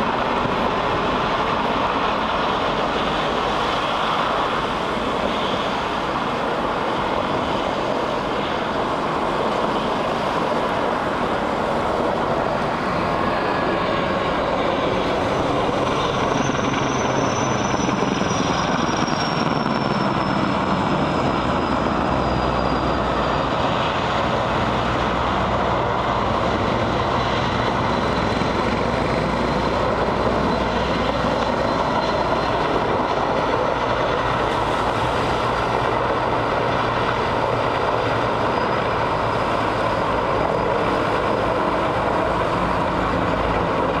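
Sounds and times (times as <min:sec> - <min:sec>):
helicopter hovering: 0:00.0 - 0:44.0
high turbine whine: 0:00.0 - 0:44.0.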